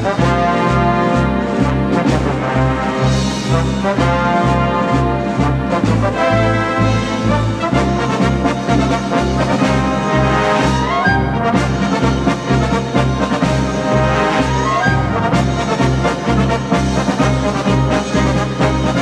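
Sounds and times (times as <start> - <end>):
upbeat instrumental music: 0.0 - 19.0.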